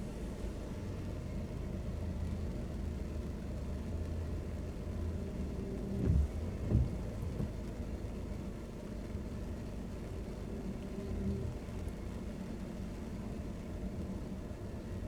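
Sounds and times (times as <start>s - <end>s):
car driving in rain: 0.2s - 15.0s.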